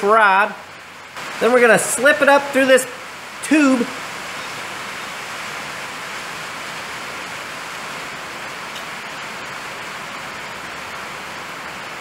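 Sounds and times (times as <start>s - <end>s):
hard rain falling: 0.0s - 12.0s.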